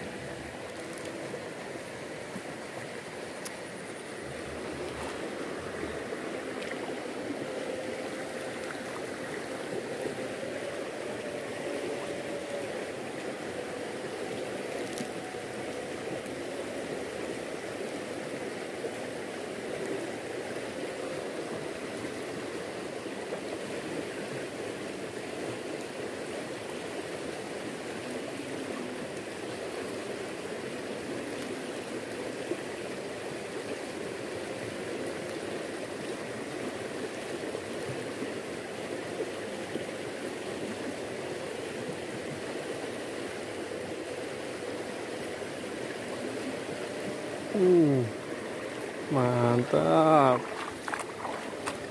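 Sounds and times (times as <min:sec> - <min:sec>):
fast-flowing river rushing: 0:00.0 - 0:51.9.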